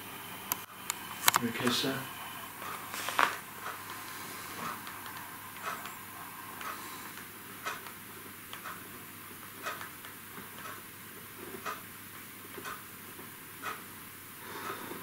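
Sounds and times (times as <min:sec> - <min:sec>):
faint steady hiss: 0:00.0 - 0:15.0
clock ticking: 0:02.6 - 0:15.0.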